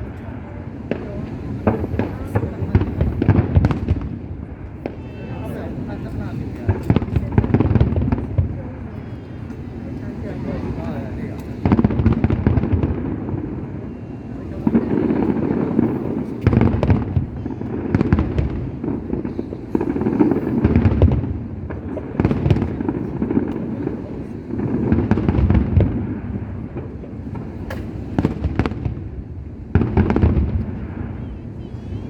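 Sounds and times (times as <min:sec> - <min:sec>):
fireworks booming: 0:00.0 - 0:32.0
fireworks cracking and crackling: 0:00.0 - 0:32.0.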